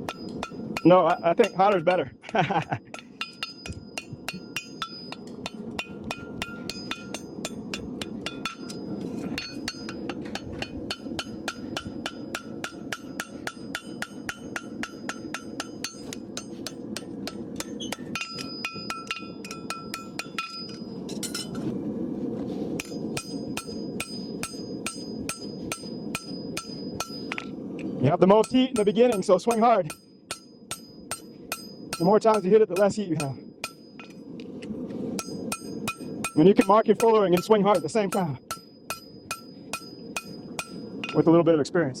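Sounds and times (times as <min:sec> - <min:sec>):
hammer ringing on anvil: 0:00.0 - 0:02.0, 0:02.9 - 0:21.5, 0:22.8 - 0:27.4, 0:28.4 - 0:34.1, 0:35.2 - 0:41.2.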